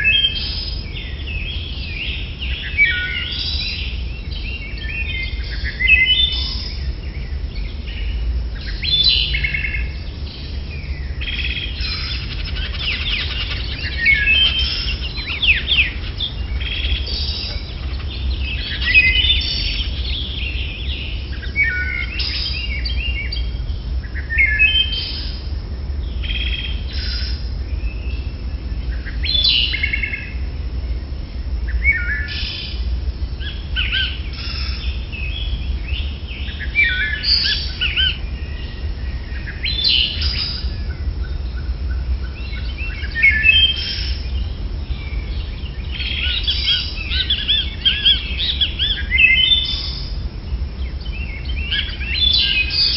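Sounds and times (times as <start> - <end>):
birds chirping: 0.0 - 52.9
steady low rumble: 0.0 - 52.9.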